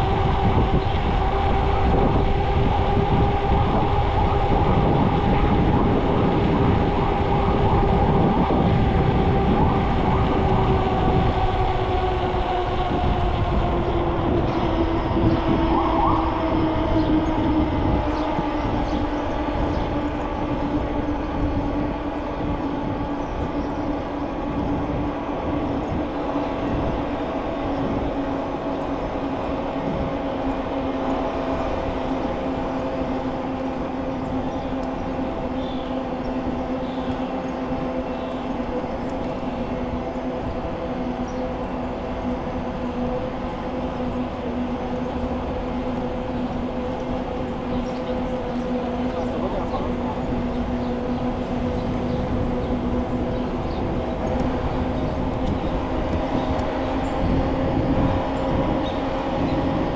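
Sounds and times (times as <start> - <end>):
bicycle tyres humming on pavement: 0.0 - 59.9
wind rumble on microphone: 0.0 - 59.9.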